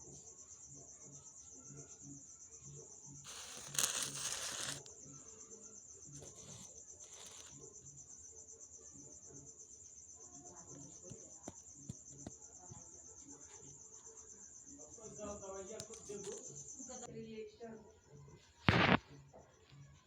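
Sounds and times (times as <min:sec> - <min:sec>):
high-pitched insect trill: 0:00.0 - 0:17.1.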